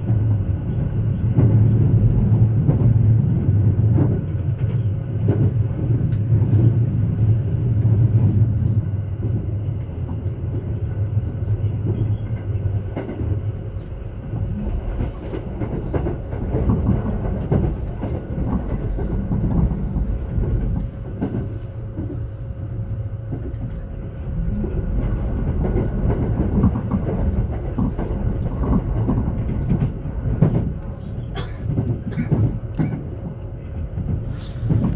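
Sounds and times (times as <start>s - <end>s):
train low rumble: 0.0s - 34.9s.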